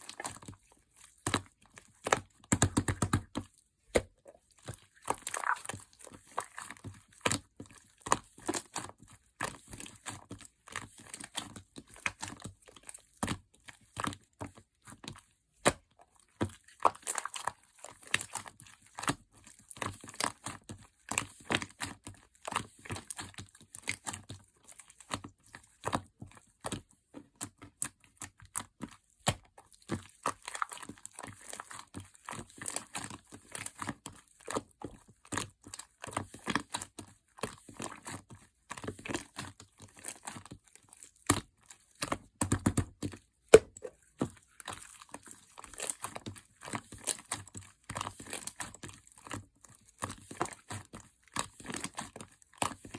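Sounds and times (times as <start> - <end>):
slime squishing: 0.0 - 52.9.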